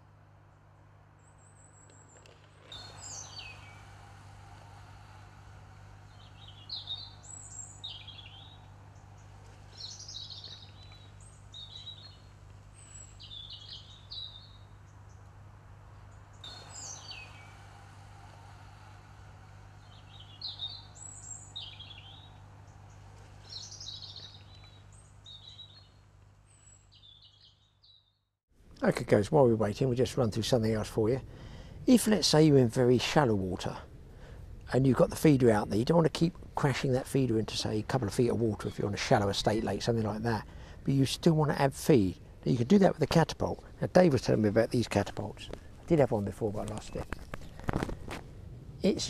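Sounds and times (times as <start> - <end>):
steady low hum: 0.0 - 49.0
small birds chirping: 1.2 - 28.3, 33.4 - 48.2.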